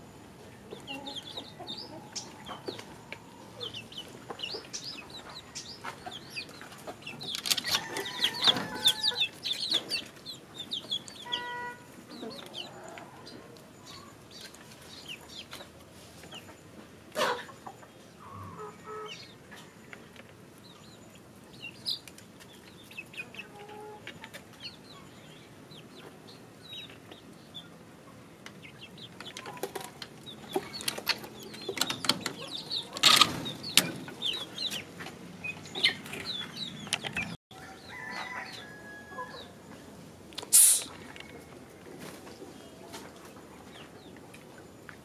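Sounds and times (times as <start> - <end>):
chicks peeping and clucking: 0.1 - 45.0.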